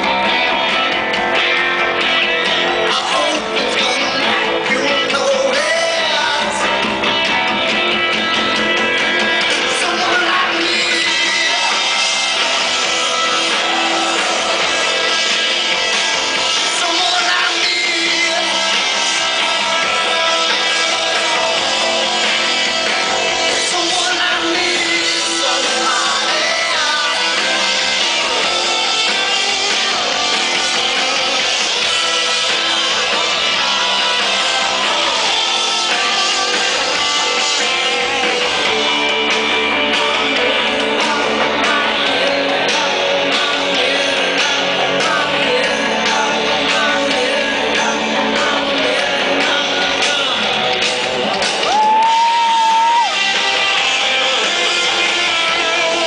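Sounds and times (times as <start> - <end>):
electric guitars: 0.0 - 56.0
person singing: 2.5 - 7.0, 9.0 - 56.0.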